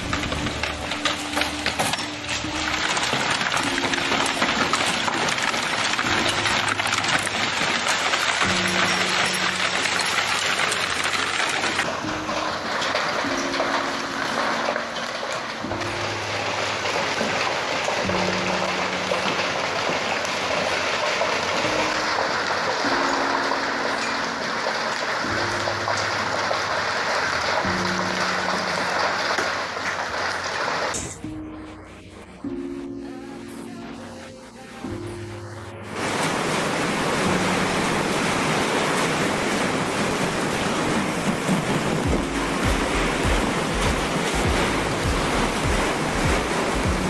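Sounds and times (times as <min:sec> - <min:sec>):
hailstones clattering on wooden deck: 0:00.0 - 0:31.3, 0:35.9 - 0:47.0
heavy rain pouring: 0:00.0 - 0:47.0.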